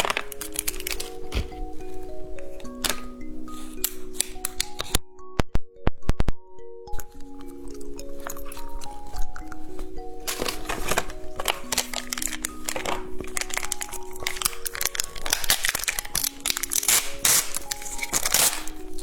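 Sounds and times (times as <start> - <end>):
plastic packaging crinkling: 0.0 - 5.0, 7.0 - 19.0
background music: 0.0 - 19.0.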